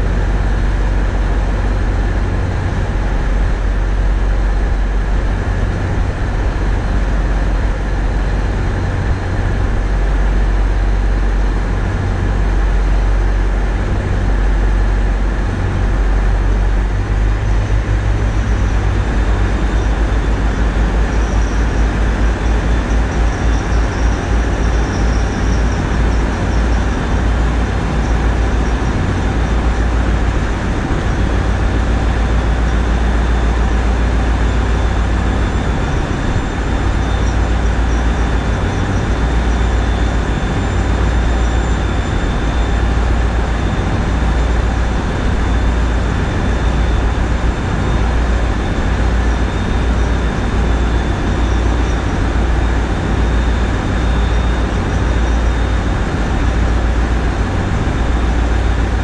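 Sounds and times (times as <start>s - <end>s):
diesel engines rumbling: 0.0s - 59.0s
faint high whine: 2.9s - 59.0s.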